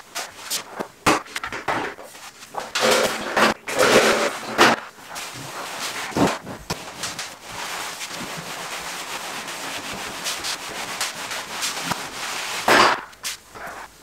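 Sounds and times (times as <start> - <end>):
broom sweeping debris: 0.0 - 0.8, 2.0 - 14.0.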